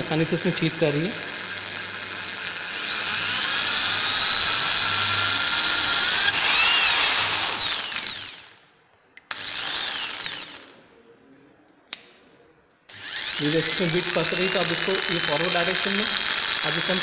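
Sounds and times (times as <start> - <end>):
electric drill whining: 0.0 - 8.6, 9.3 - 10.7, 12.9 - 17.0
drill click: 0.3 - 8.5, 9.2 - 10.7, 12.9 - 17.0.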